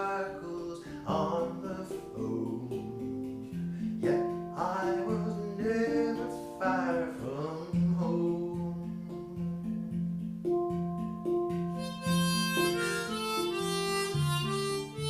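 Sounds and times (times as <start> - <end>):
acoustic guitar folk song: 0.0 - 15.0
person singing: 0.0 - 15.0.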